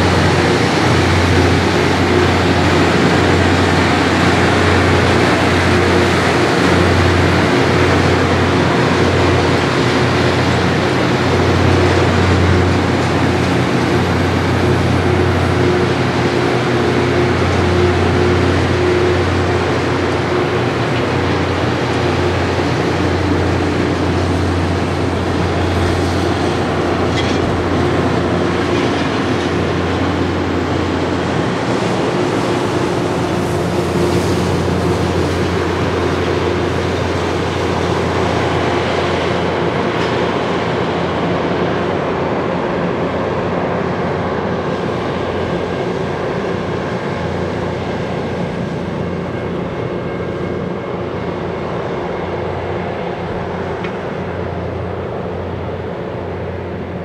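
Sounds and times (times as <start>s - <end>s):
diesel engines humming: 0.0s - 57.0s
rail cars rolling: 0.0s - 57.0s.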